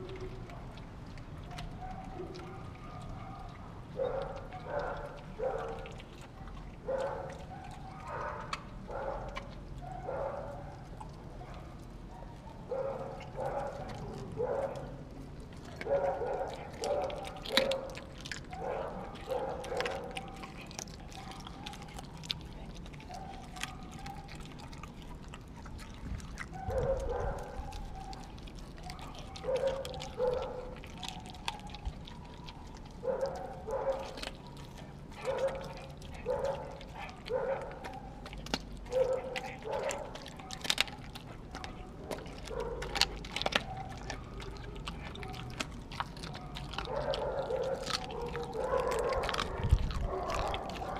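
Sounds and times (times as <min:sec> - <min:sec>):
dog chewing raw meat: 0:00.0 - 0:50.9.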